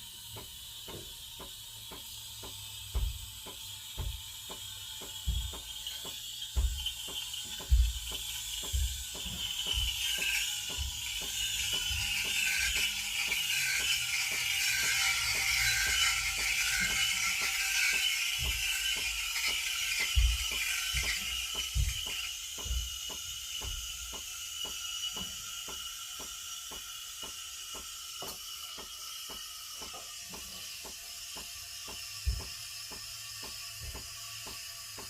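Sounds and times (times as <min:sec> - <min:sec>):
hiss: 0:00.0 - 0:35.0
rapid mechanical clicking: 0:00.0 - 0:35.0.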